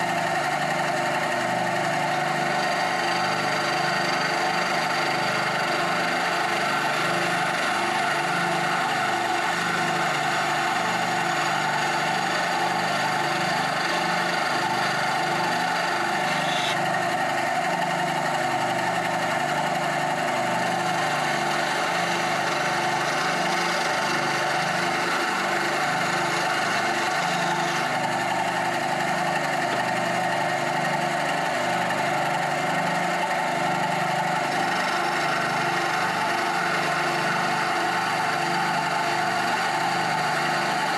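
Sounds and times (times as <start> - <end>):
bandsaw cutting wood: 0.0 - 40.9.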